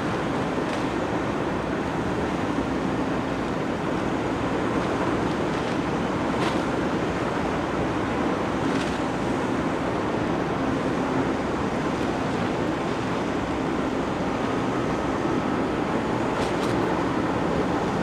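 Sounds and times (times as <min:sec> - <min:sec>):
ferry engine drone: 0:00.0 - 0:18.0
wind and water rushing: 0:00.0 - 0:18.0.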